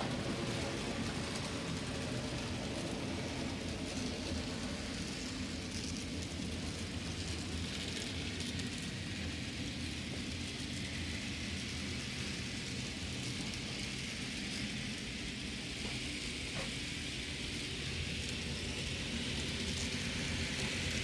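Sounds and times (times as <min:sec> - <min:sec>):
model train motor hum: 0:00.0 - 0:21.0
small wheels rattling on track: 0:00.0 - 0:21.0.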